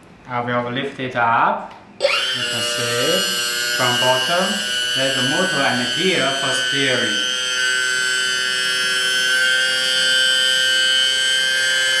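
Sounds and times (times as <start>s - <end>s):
electric pump whining: 2.0s - 12.0s.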